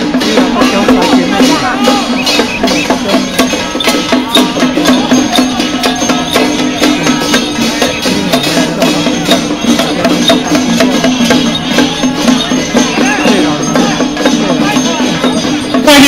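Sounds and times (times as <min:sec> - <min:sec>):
fast percussion: 0:00.0 - 0:16.0.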